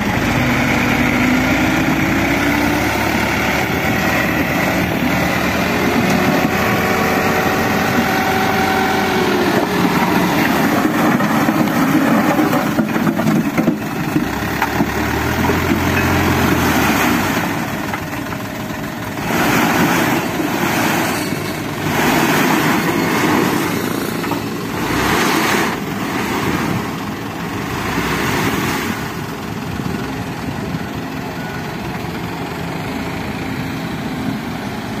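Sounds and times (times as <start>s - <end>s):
truck and excavator engines: 0.0s - 35.0s.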